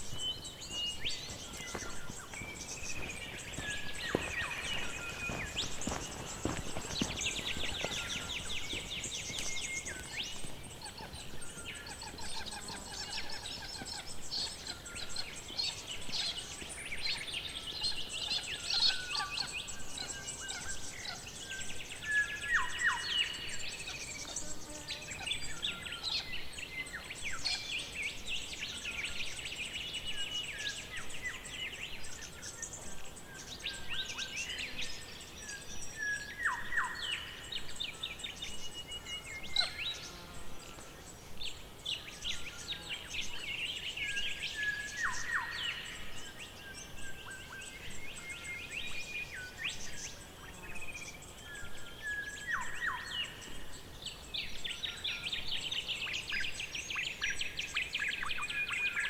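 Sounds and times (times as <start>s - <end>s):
birds chirping trills: 0.0s - 59.0s.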